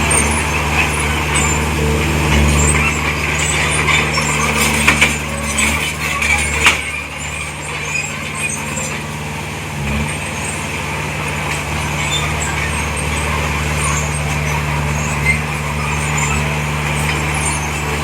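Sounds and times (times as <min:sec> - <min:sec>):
diesel machinery running: 0:00.0 - 0:18.0.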